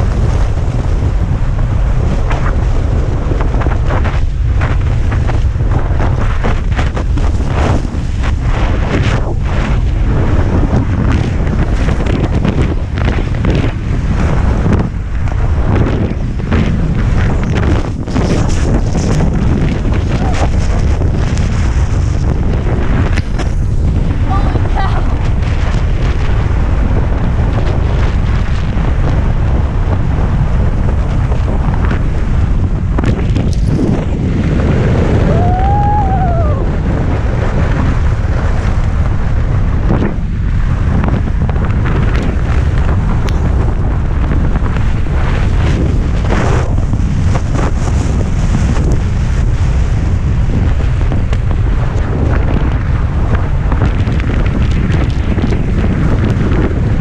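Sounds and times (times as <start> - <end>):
rushing water and spray: 0.0 - 57.0
wind buffeting microphone: 0.0 - 57.0.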